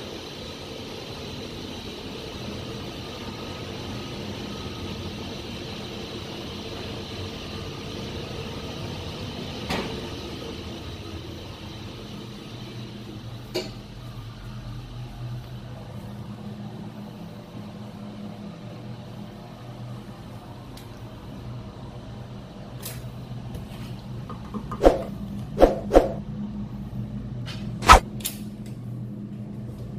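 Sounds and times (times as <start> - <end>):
engine room machinery drone: 0.0 - 29.9.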